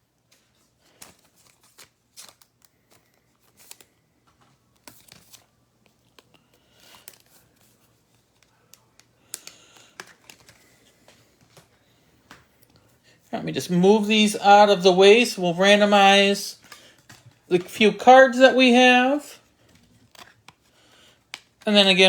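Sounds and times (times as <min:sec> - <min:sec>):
trading cards and sleeves rustling: 0:00.1 - 0:22.0.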